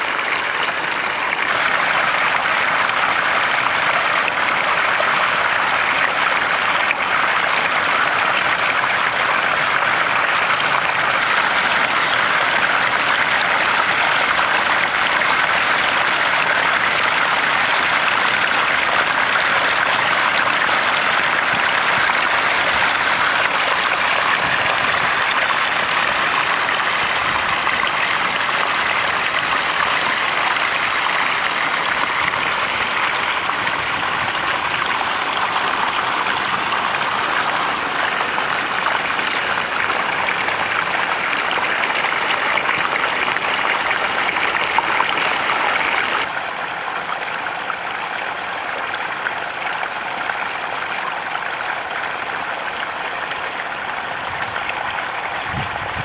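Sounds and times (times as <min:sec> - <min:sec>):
water splashing over rocks: 0:00.0 - 0:56.0.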